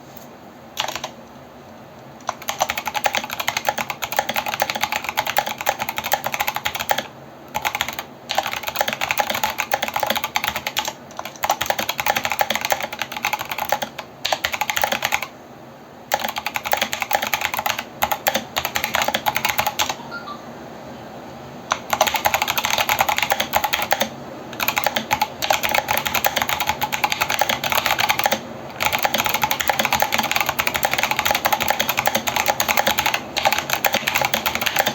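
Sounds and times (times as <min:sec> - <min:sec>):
mechanical keyboard typing: 0:00.8 - 0:01.2, 0:02.2 - 0:15.3, 0:16.1 - 0:20.0, 0:21.7 - 0:34.9.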